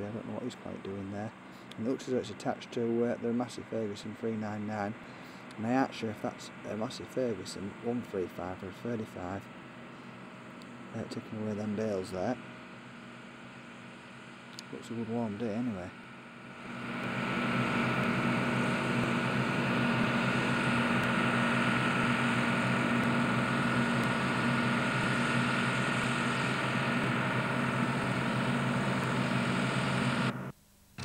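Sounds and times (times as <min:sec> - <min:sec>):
combine harvester engine drone: 0:00.0 - 0:30.5.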